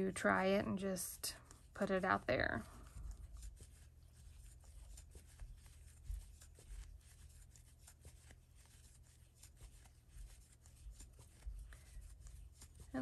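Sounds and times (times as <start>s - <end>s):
low steady hum: 0.0s - 13.0s
crochet hook working yarn: 1.4s - 13.0s.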